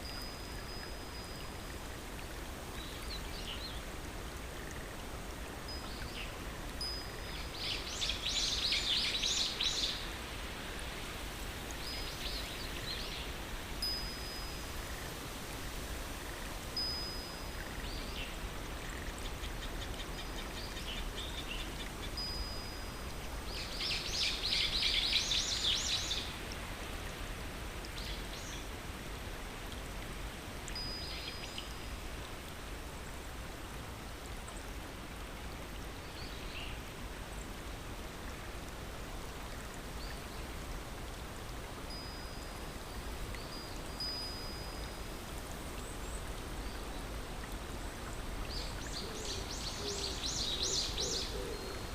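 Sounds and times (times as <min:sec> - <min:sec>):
stream water flowing: 0:00.0 - 0:51.9.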